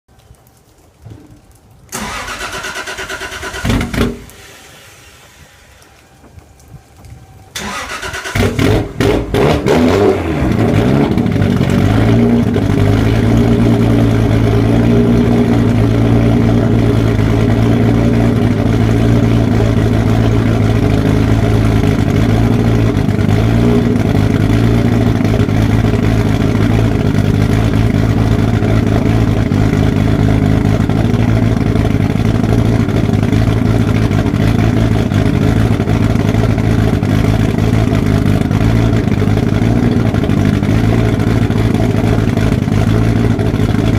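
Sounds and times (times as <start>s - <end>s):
car engine idling: 1.9s - 43.9s.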